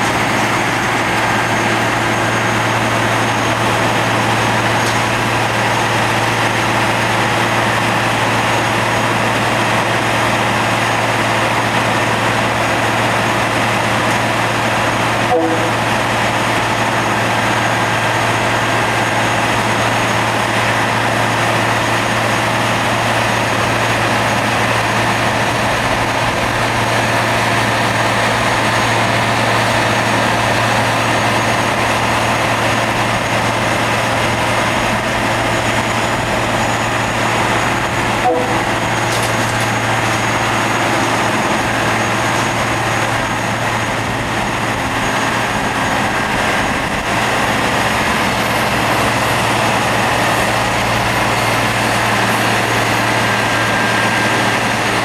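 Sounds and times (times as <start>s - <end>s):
grinding wheels rushing on rail: 0.0s - 55.0s.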